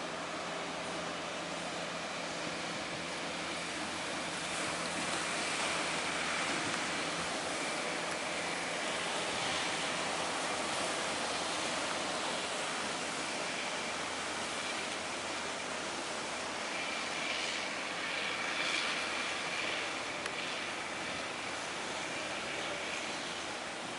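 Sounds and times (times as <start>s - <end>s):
faint low engine drone: 0.0s - 23.9s
heavy waves rushing: 0.0s - 23.9s.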